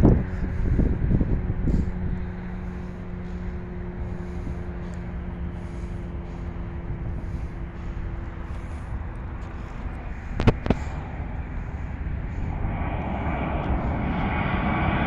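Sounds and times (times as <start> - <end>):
distant jet airliner roar: 0.0 - 15.0
low hum: 0.0 - 15.0.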